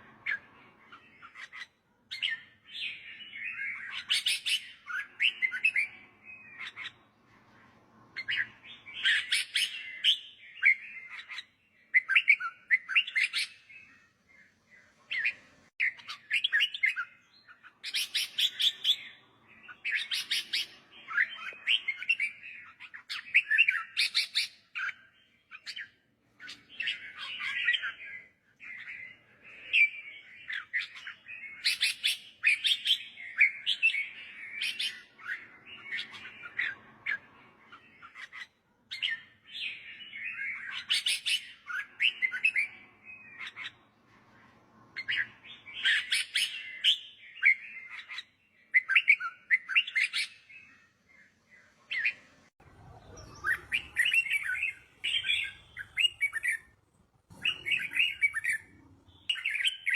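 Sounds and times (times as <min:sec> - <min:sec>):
bird singing warbled phrases: 0:00.0 - 0:59.9.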